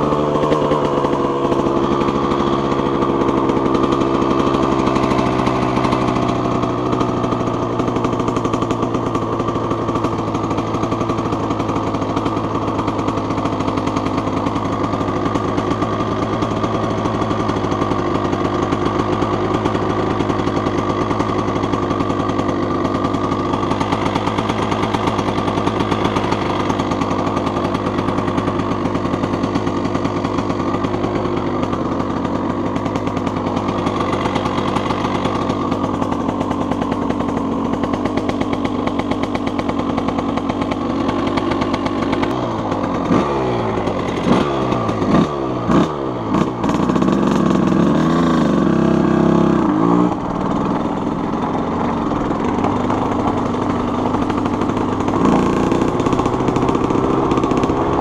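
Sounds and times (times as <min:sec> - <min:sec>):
two-stroke motorcycle engine revving: 0:00.0 - 0:58.0.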